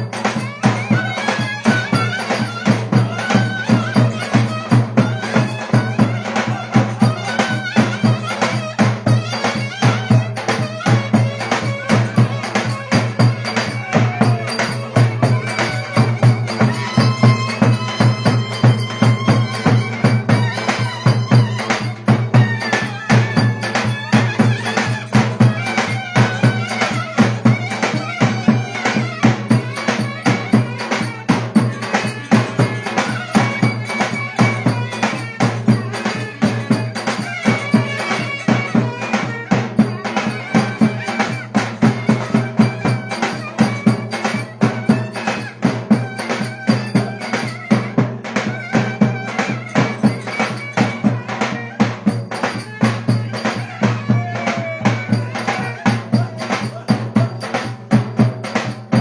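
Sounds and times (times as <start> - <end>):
reedy wind instrument melody: 0.0 - 59.0.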